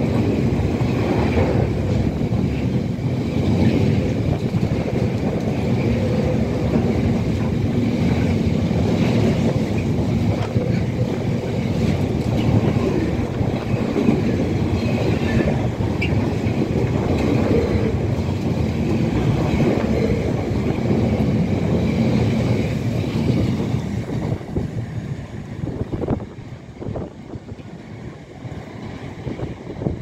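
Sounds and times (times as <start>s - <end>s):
freight train wheels clattering on rails: 0.0s - 30.0s.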